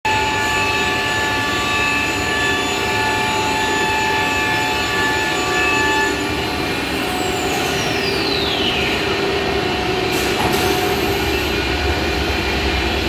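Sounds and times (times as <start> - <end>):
machine noise: 0.1 - 13.0
machine whine: 0.1 - 13.0.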